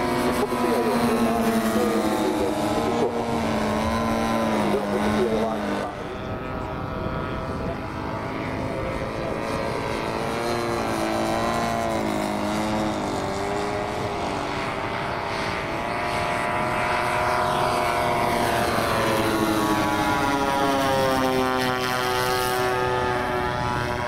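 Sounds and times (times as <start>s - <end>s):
model aircraft engines: 0.0s - 24.0s.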